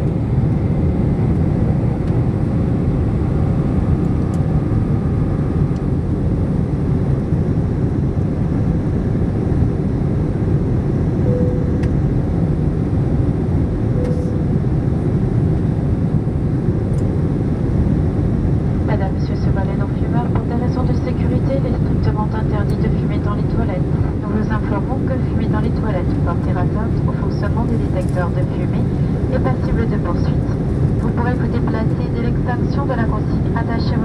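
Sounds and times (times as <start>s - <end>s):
airplane cabin engine drone: 0.0s - 34.0s.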